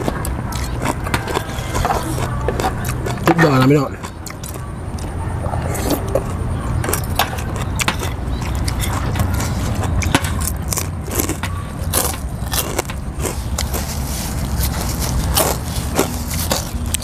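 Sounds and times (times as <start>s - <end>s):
chewing: 0.0s - 17.0s
steady low rumble: 0.0s - 17.0s.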